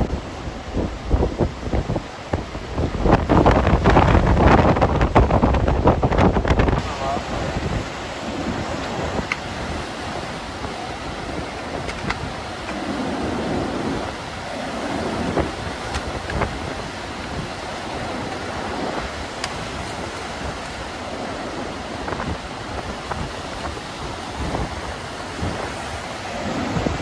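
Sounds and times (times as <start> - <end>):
waves breaking on shore: 0.0 - 27.0
wind blowing across microphone: 0.0 - 27.0.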